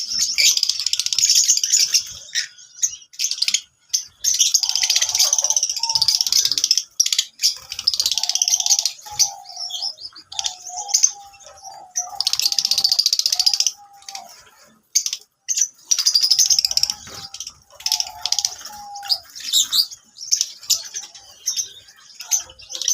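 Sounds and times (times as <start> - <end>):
lovebirds chirping and chattering: 0.0 - 22.9.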